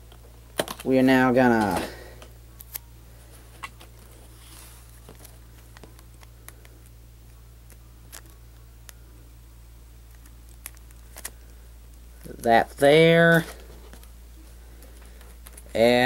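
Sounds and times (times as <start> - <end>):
steady low hum: 0.0 - 16.0
tape clicks and crinkles: 0.1 - 9.0, 10.0 - 12.6, 13.3 - 15.9.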